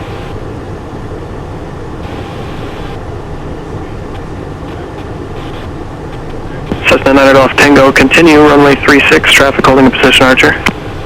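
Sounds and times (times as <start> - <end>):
jet engine and airflow noise: 0.0 - 11.0
low hum: 0.0 - 11.0.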